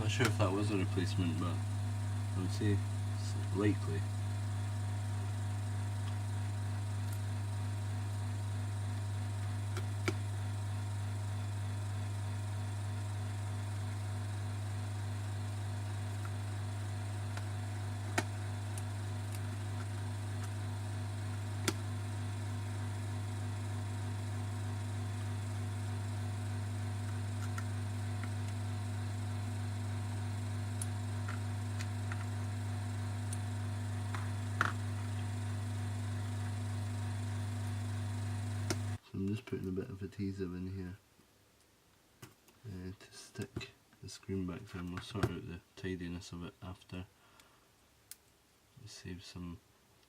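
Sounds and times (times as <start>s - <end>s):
low electrical hum: 0.0s - 50.0s.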